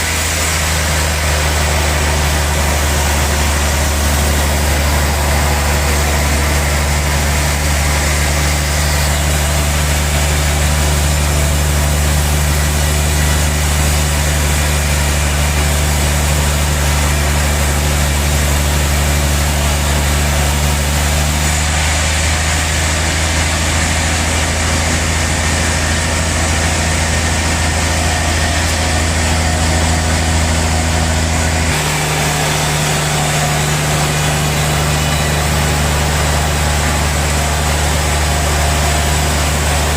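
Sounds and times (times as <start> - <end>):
saw cutting log hiss: 0.0 - 39.9
sawmill machine drone: 0.0 - 39.9.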